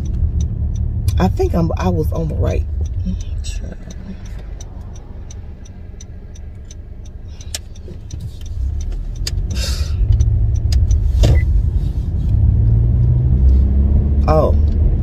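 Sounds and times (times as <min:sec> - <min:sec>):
faint regular ticking: 0:00.0 - 0:12.4
car engine and road noise: 0:00.0 - 0:15.0.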